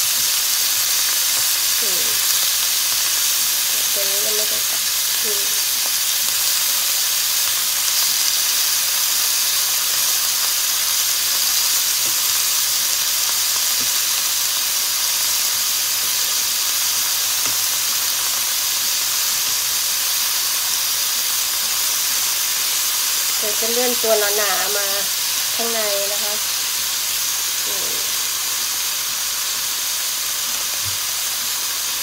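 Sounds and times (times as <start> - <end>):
pork sizzling in frying pan: 0.0 - 32.0.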